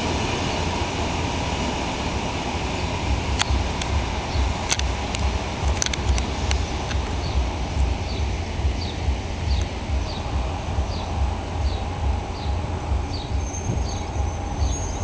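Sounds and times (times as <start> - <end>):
distant train rumble: 0.0 - 15.0
bird chirping: 2.8 - 15.0.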